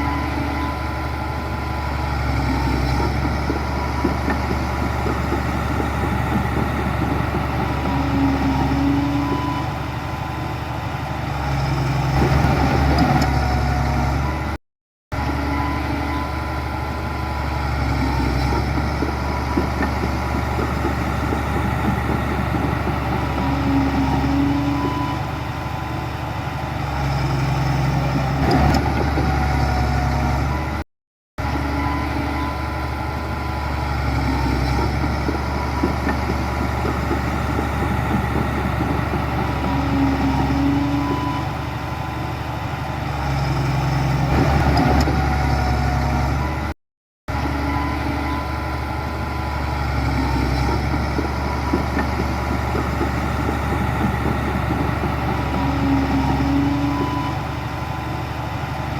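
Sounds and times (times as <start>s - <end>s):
heavy diesel machinery running: 0.0s - 30.8s, 31.4s - 58.9s.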